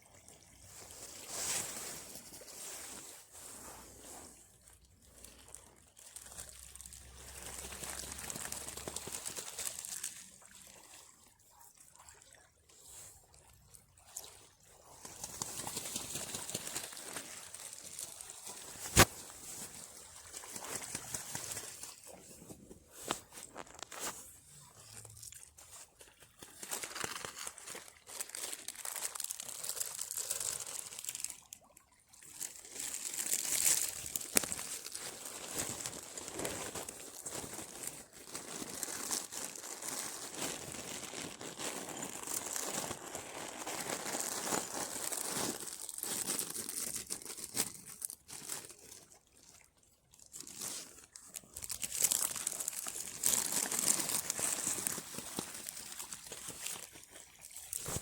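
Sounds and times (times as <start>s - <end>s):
crisp packet crinkling: 5.0s - 10.6s, 14.8s - 49.6s, 50.2s - 58.0s.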